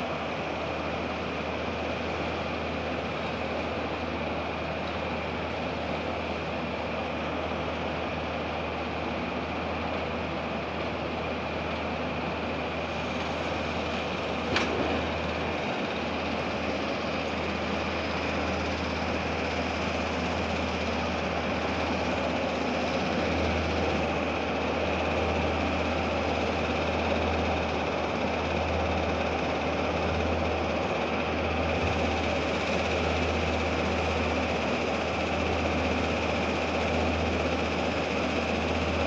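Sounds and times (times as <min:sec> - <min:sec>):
machinery engine hum: 0:00.0 - 0:39.0.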